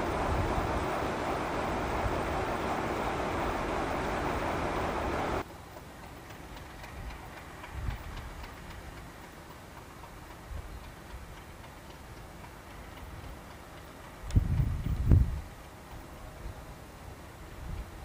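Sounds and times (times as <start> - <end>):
faint outdoor yard noise: 0.0 - 18.0
light ticking: 0.1 - 16.2.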